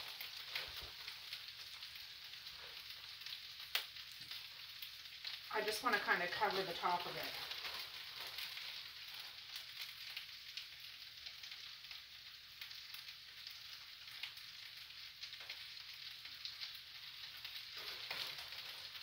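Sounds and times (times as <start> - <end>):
food sizzling in frying pans: 0.0 - 19.0.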